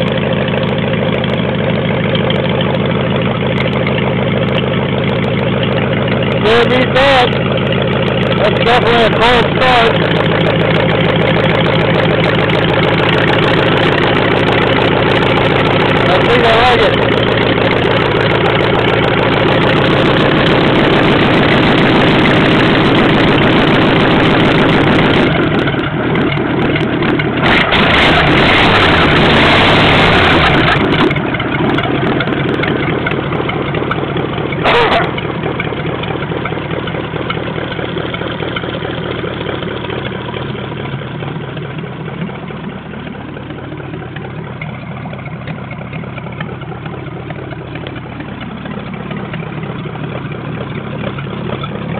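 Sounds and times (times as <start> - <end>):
car engine running: 0.0 - 51.9
short sharp engine sound: 0.0 - 51.9.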